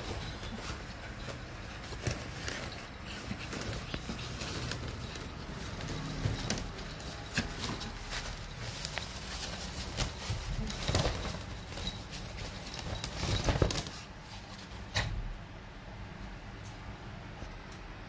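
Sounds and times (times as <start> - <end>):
nylon tunnel rustling: 0.0 - 15.0.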